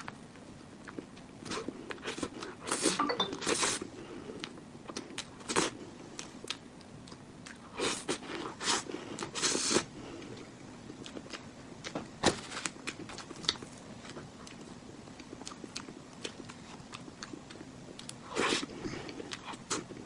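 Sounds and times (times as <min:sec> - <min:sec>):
person chewing cake: 0:00.0 - 0:20.0.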